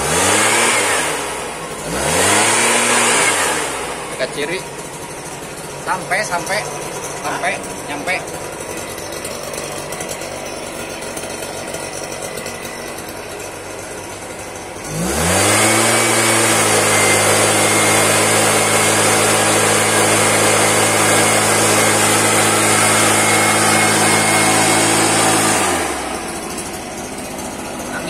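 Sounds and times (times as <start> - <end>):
two-stroke blower engine revving: 0.0 - 28.0.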